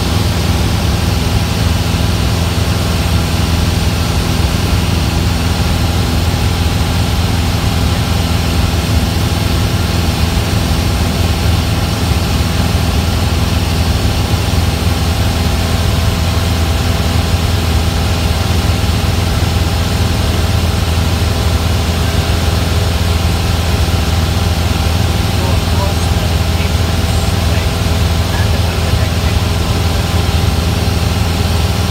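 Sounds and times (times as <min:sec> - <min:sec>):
constant rushing noise: 0:00.0 - 0:31.9
piston aircraft engine droning: 0:00.0 - 0:31.9.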